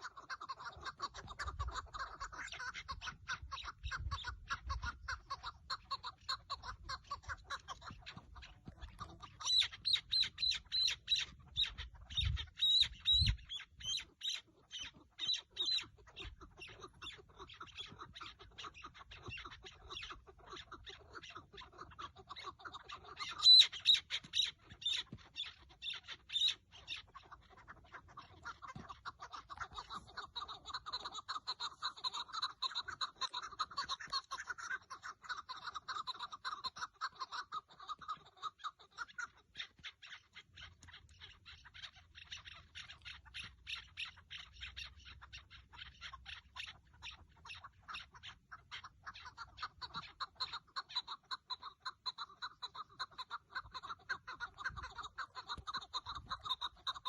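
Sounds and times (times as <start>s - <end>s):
partridges calling: 0.0s - 57.0s.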